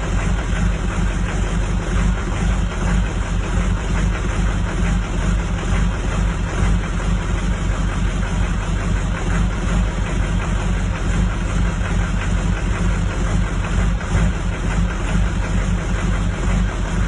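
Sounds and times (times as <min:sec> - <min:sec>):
diesel engine idling roughly: 0:00.0 - 0:17.0.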